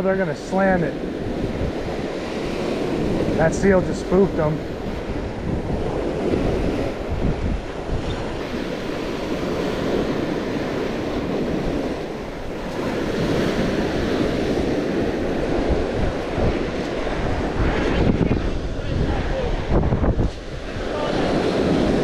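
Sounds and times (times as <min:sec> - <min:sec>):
ocean surf breaking on beach: 0:00.0 - 0:22.0
wind rumbling on microphone: 0:00.0 - 0:22.0.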